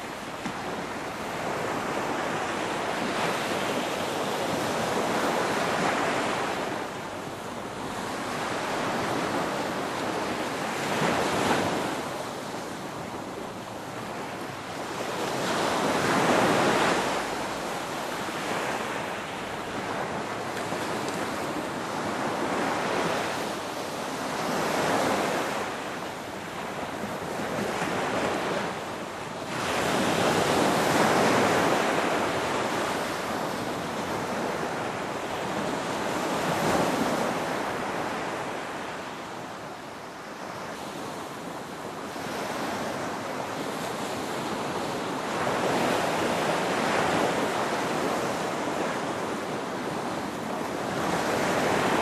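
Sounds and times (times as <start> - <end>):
ocean waves washing on shore: 0.0 - 52.0.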